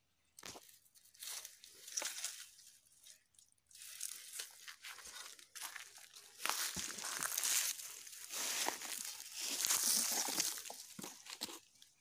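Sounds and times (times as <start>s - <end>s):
dry leaves rustling and crunching: 1.1s - 11.6s.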